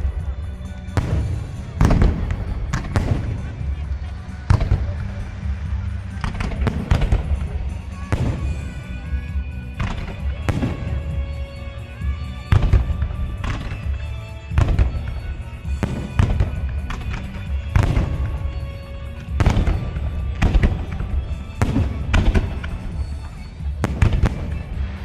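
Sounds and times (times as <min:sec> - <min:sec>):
firework bangs: 0:00.0 - 0:25.0
music playing: 0:00.0 - 0:25.0.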